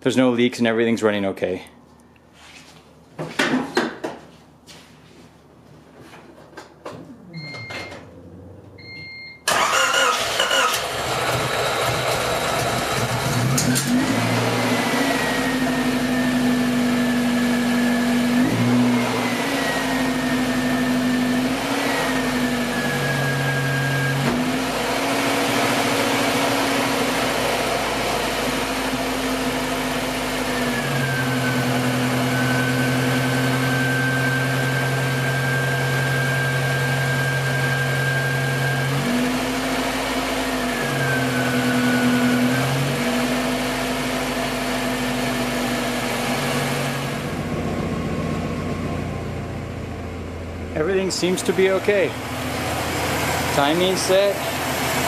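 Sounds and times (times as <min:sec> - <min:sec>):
car engine revving: 0:07.1 - 0:55.0.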